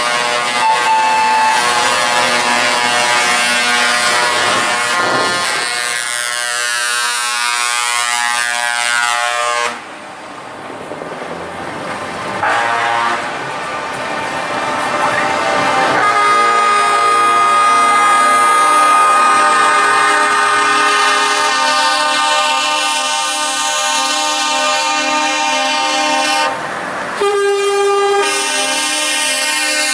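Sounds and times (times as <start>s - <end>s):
truck air horns blasting: 0.0s - 9.9s, 12.4s - 13.4s, 15.2s - 26.6s, 27.2s - 29.9s
diesel engines running: 0.0s - 27.4s.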